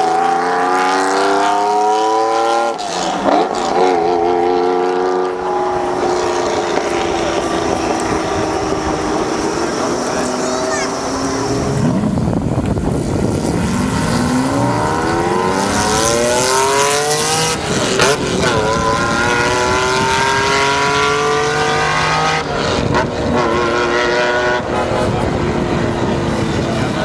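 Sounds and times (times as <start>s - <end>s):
sports car engine accelerating: 0.0s - 27.0s.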